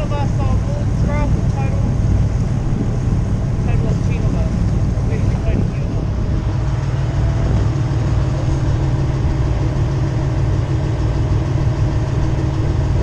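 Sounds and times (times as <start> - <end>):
boat engine low drone: 0.0 - 13.0.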